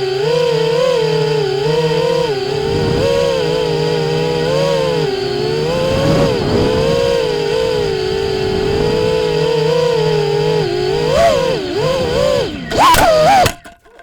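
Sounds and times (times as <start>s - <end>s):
quadcopter propellers buzzing: 0.0s - 14.0s.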